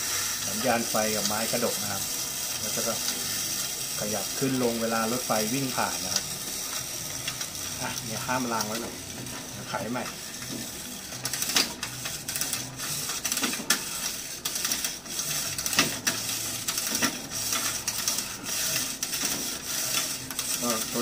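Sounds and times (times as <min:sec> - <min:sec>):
clockwork toy winding clicks: 0:00.1 - 0:08.9, 0:09.6 - 0:21.0.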